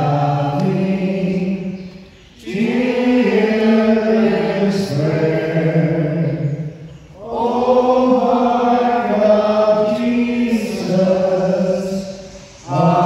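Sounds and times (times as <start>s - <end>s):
group singing a hymn: 0.0s - 13.0s.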